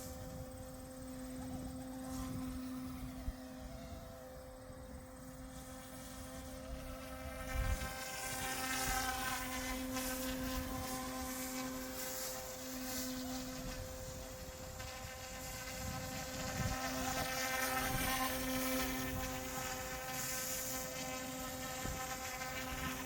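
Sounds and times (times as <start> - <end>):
rc helicopter rotor buzz: 0.0 - 23.0
wavering high whine: 0.0 - 23.0.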